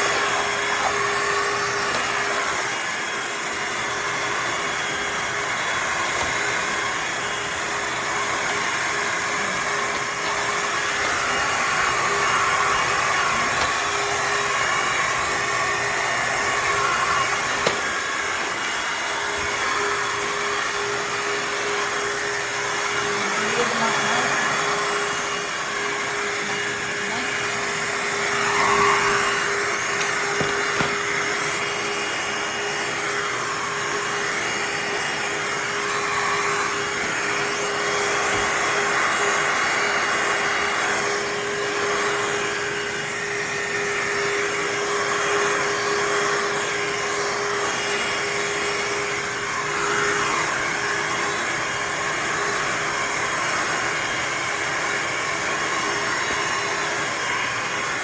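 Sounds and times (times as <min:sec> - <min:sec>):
vacuum mop motor whine: 0:00.0 - 0:58.0.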